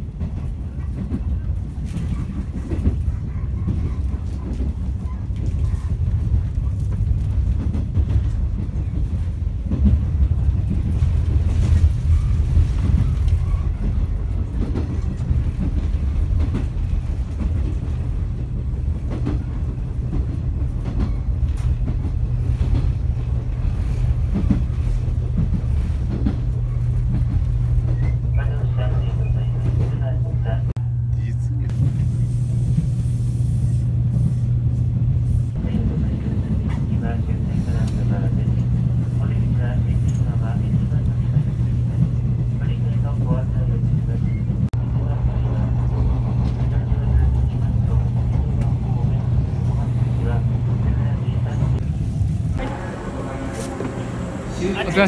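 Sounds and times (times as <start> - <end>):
train running gear rumble: 0.0 - 55.0.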